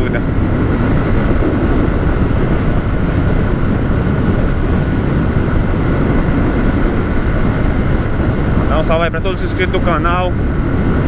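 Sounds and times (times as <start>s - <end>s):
motorcycle engine running: 0.0s - 11.0s
wind on microphone: 0.0s - 11.0s.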